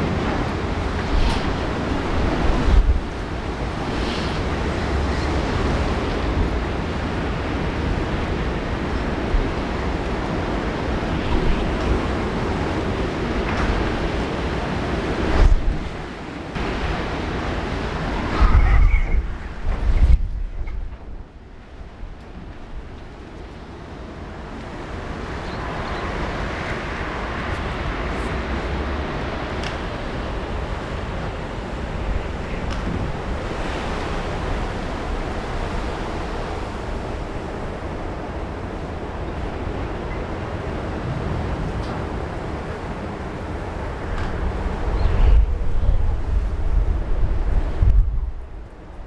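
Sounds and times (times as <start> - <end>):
strong wind rushing: 0.0 - 49.0.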